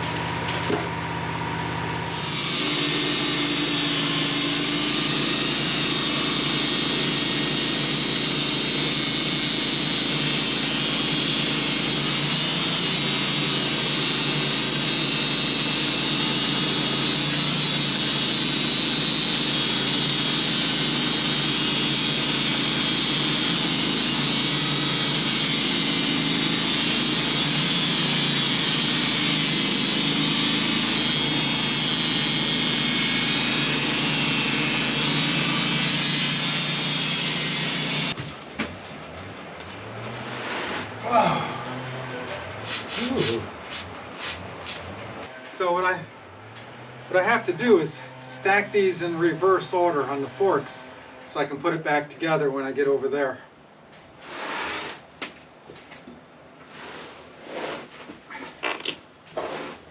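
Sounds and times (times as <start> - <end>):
saw blade whine: 0.0 - 38.2, 39.8 - 53.4
sawmill engine drone: 0.0 - 55.2.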